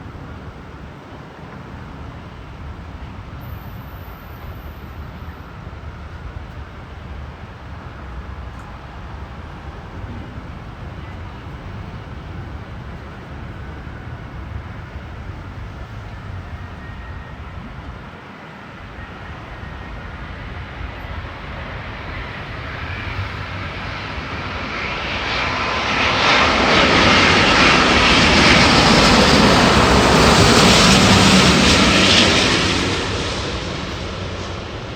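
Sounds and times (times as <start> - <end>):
jet airliner landing rumble: 0.0 - 34.9.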